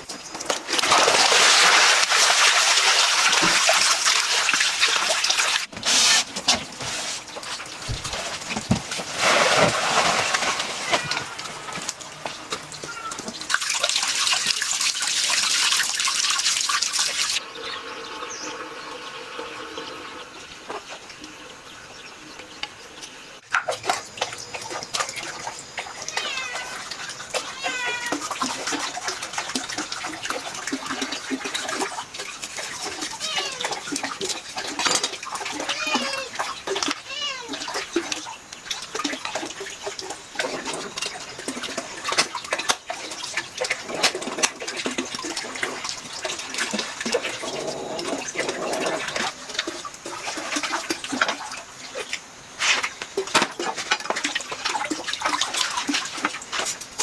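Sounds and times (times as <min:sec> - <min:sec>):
rushing splashing water: 0:00.0 - 0:06.2, 0:06.8 - 0:17.6, 0:23.7 - 0:57.0.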